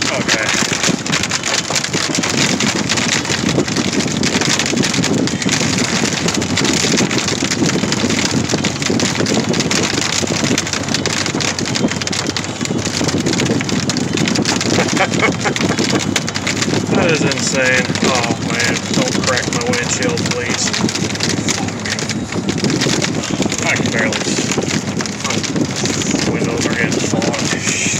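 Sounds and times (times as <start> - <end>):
car road noise: 0.0 - 27.9
hail pelting a car roof: 0.0 - 27.9.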